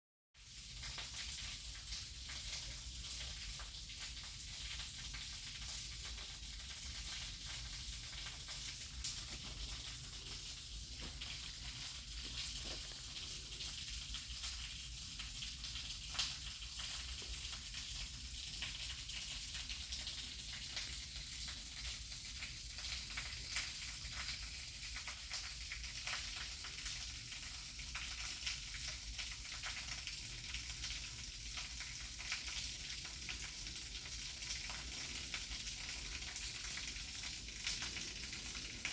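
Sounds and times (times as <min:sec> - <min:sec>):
waterfall pouring and splashing: 0:00.4 - 0:38.9.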